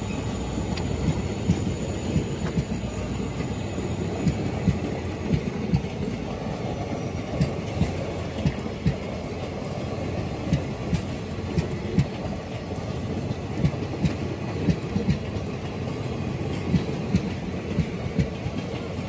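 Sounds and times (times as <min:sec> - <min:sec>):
rumble of rolling wheels: 0:00.0 - 0:19.0
train wheels clacking over rail joints: 0:00.0 - 0:19.0.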